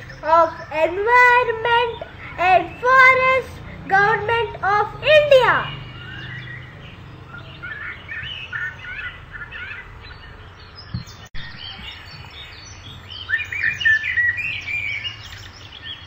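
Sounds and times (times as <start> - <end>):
birds chirping: 0.0 - 16.0
low steady background: 0.0 - 16.0.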